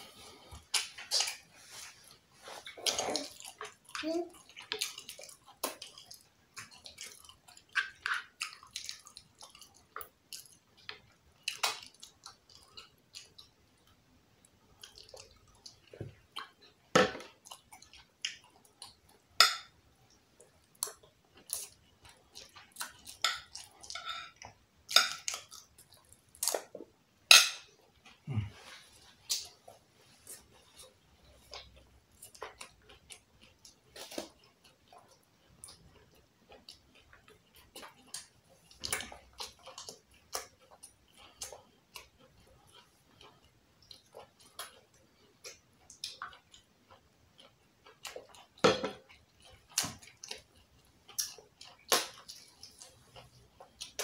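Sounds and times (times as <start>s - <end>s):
chewing and mouth smacks: 0.5s - 19.2s, 20.4s - 26.9s, 27.8s - 54.0s.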